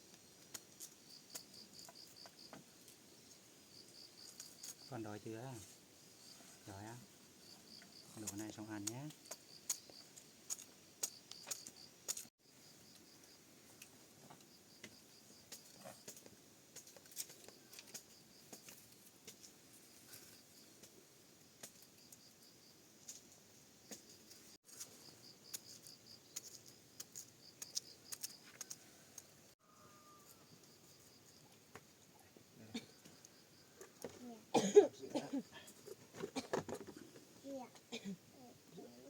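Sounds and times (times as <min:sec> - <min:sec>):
faint insect chirping: 0:00.0 - 0:39.0.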